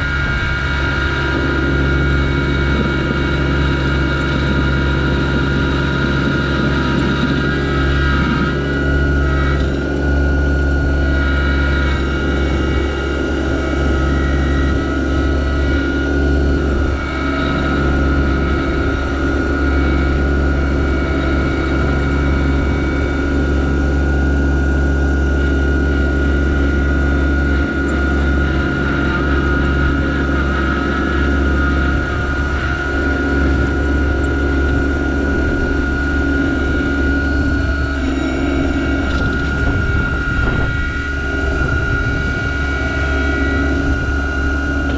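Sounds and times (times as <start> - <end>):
steady high whine: 0.0 - 44.9
tractor diesel engine running: 0.0 - 44.9.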